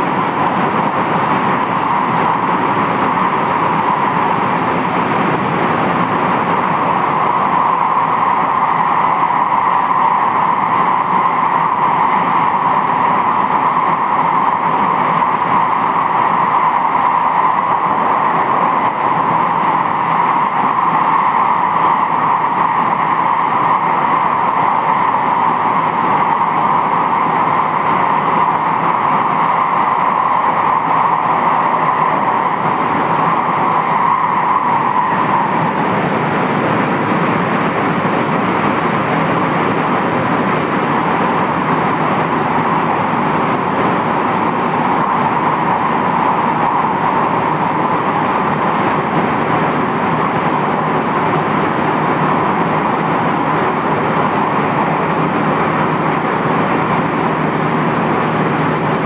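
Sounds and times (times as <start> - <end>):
mid-pitched hum: 0.0 - 59.0
train wheels rumbling on rail: 0.0 - 59.0.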